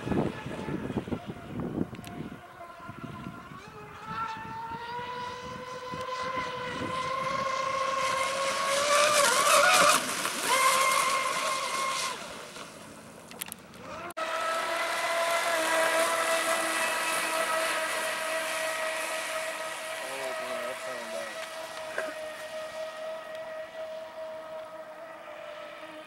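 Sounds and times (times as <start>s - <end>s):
electric boat motors whining: 0.0s - 26.0s.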